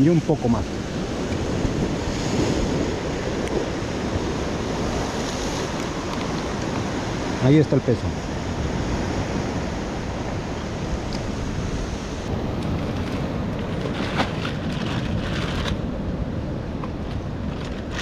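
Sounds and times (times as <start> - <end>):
ocean surf washing in: 0.0 - 18.0
wind on microphone: 0.0 - 18.0.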